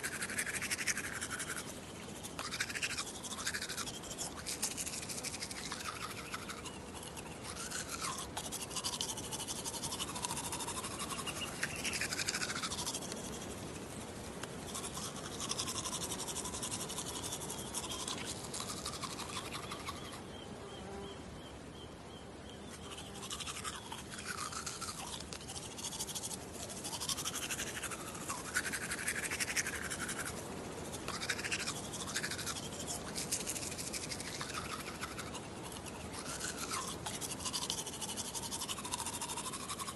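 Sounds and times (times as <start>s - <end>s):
toothbrush scrubbing teeth: 0.0s - 20.1s, 22.8s - 39.9s.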